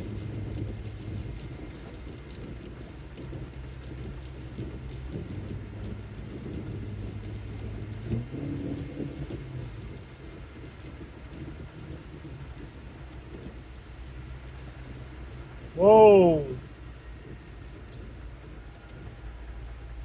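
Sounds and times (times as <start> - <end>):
car driving rumble inside cabin: 0.0 - 20.0.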